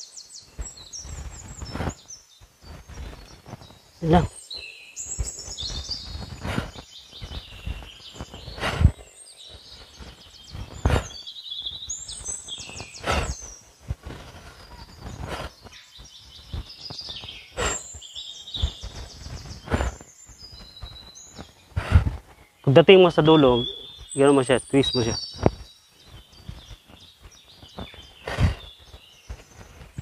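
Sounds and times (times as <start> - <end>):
birds trilling and chirping: 0.0 - 30.0.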